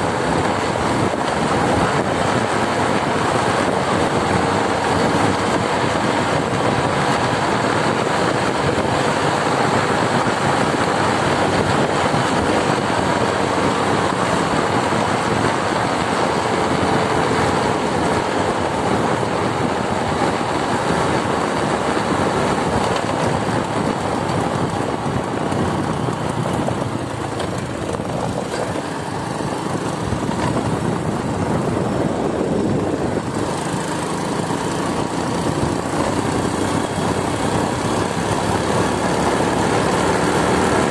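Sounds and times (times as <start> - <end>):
motorcycle running: 0.0 - 40.9
wind rush on microphone: 0.0 - 40.9.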